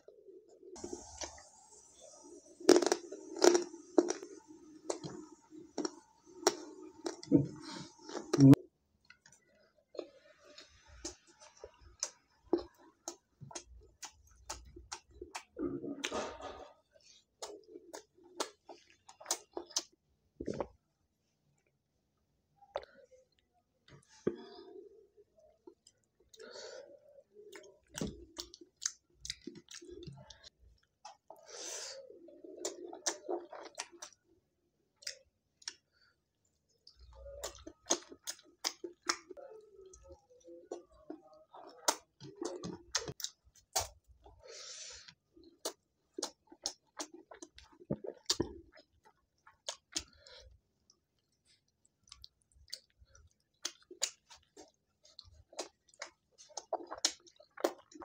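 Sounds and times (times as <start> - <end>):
person chewing with mouth clicks: 2.7 - 16.7, 17.4 - 20.7, 25.4 - 34.3, 35.0 - 35.9, 36.8 - 44.1, 45.0 - 58.0.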